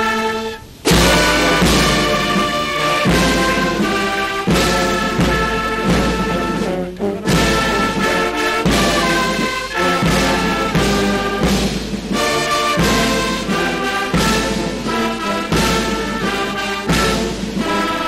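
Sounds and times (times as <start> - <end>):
military brass band playing: 0.0 - 18.0.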